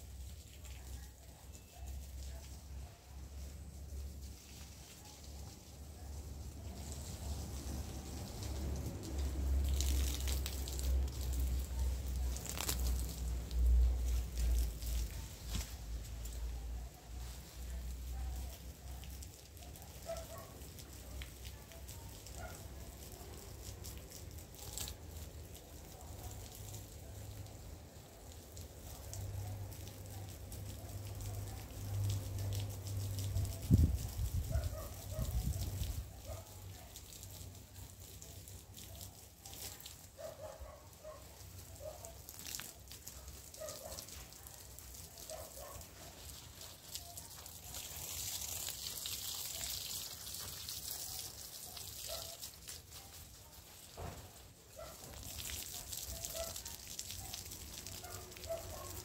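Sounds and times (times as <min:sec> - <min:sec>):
garden hose spraying water on shrubs: 0:00.0 - 0:59.0.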